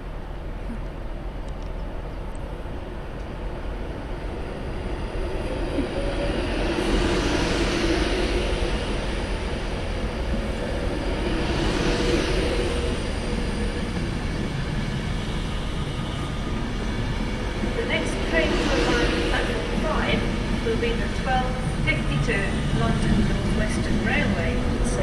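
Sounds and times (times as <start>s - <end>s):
train running: 0.0s - 25.0s.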